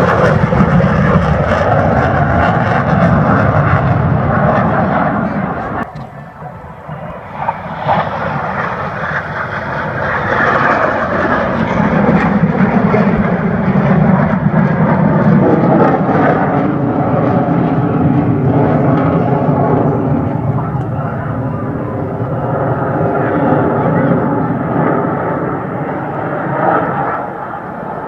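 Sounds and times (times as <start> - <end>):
plane flying past: 0.0 - 28.0.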